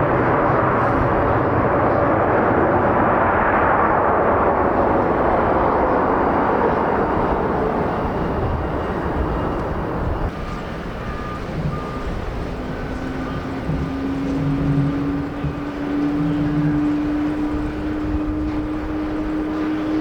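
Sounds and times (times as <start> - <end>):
jet airliner engines rushing: 0.0 - 20.0.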